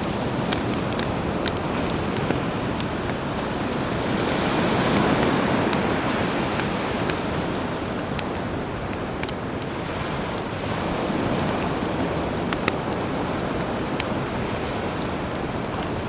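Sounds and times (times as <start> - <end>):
campfire crackling: 0.0 - 16.0
sea waves washing ashore: 0.0 - 16.0.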